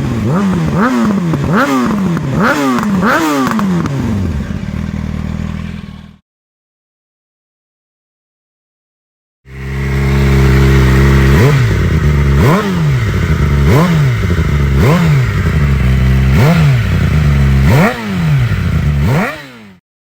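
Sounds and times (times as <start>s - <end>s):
motorcycle engine revving: 0.0s - 6.2s, 9.5s - 19.8s.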